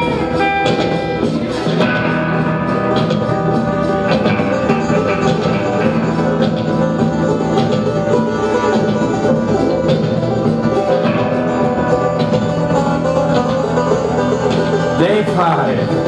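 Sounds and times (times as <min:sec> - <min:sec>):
banjo: 0:00.0 - 0:16.0
electric bass: 0:00.0 - 0:16.0
electric guitar: 0:00.0 - 0:16.0.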